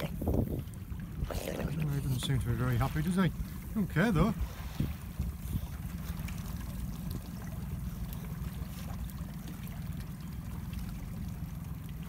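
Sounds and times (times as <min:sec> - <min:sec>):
steady low rumble: 0:00.0 - 0:12.0
water lapping against boat hull: 0:00.0 - 0:12.0.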